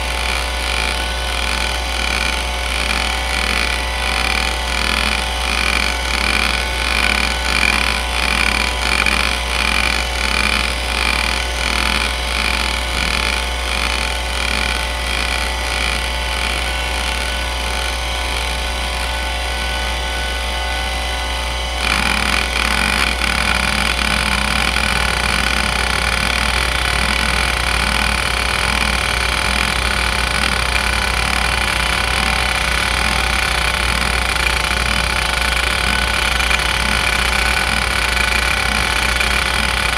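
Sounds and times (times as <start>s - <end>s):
hard drive head seeking chatter: 0.0s - 20.0s, 21.8s - 39.9s
hard drive spindle hum: 0.0s - 39.9s.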